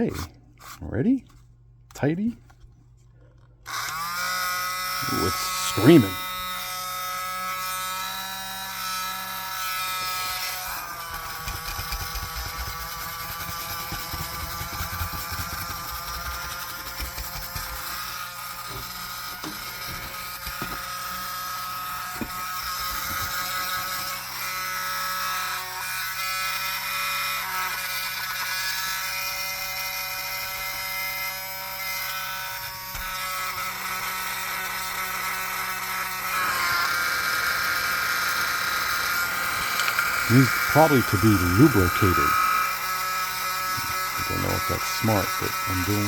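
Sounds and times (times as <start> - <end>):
mini vacuum motor whining: 3.6 - 46.0.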